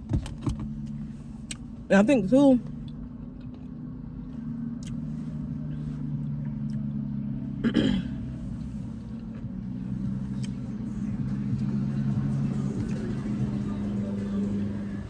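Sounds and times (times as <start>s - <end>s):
low hum: 2.6s - 15.0s.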